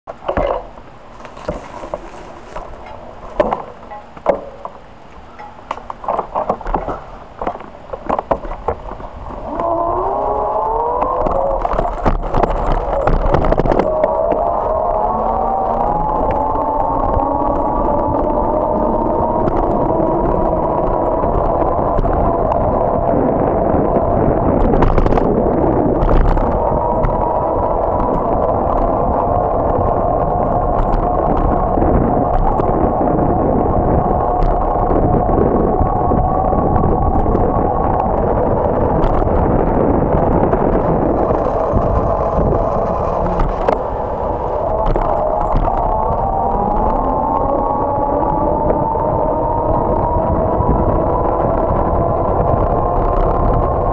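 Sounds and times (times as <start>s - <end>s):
road rumble: 0.0s - 53.9s
sharp clicks and rattles: 0.1s - 23.2s, 24.4s - 53.9s
bicycle whine: 0.1s - 53.9s.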